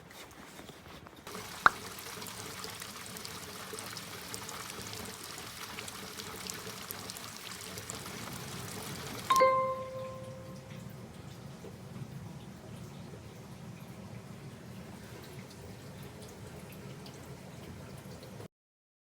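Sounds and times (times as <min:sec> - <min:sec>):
water pouring: 0:01.2 - 0:18.5.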